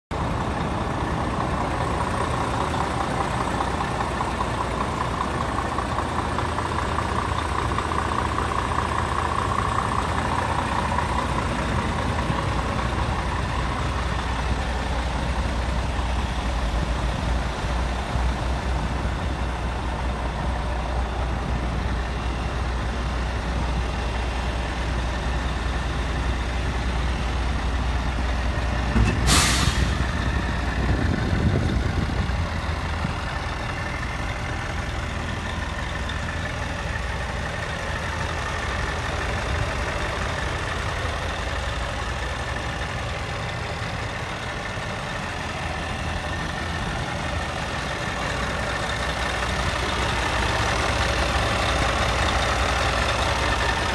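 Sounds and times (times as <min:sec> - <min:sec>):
diesel truck idling: 0:00.1 - 0:53.9.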